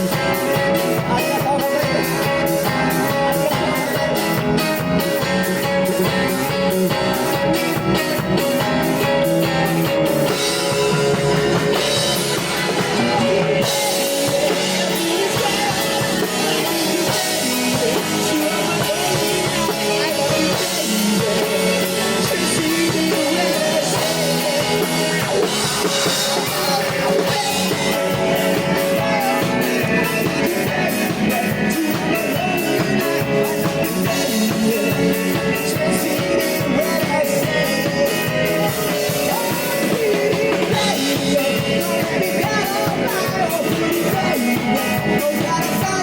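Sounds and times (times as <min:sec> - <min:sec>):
bass guitar: 0:00.0 - 0:46.0
drum kit: 0:00.0 - 0:46.0
electric guitar: 0:00.0 - 0:46.0.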